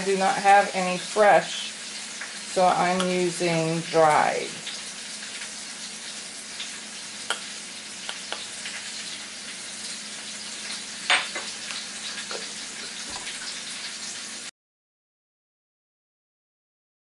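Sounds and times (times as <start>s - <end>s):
chicken sizzling in grease: 0.0s - 14.5s.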